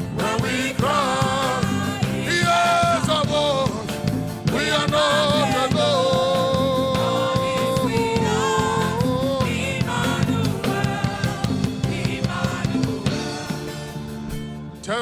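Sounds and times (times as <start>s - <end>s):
gospel band with drums: 0.0s - 15.0s
person singing with vibrato: 0.0s - 15.0s.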